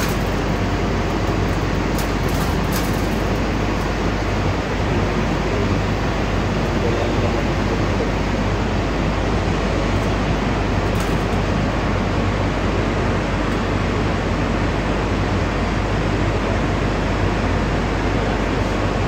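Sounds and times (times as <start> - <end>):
power plant machinery running: 0.0 - 19.0.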